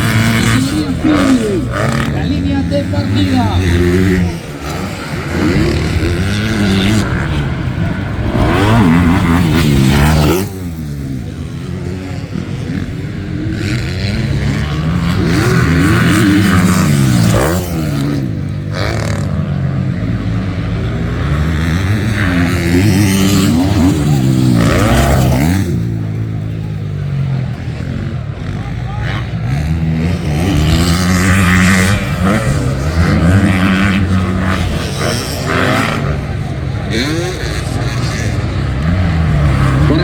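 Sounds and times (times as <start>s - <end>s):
motocross bikes racing: 0.0s - 40.0s.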